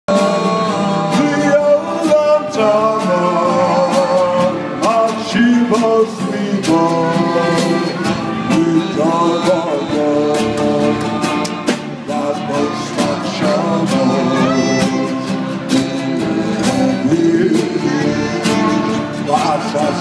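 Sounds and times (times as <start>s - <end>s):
acoustic guitar: 0.1s - 20.0s
man singing into microphone: 0.1s - 20.0s.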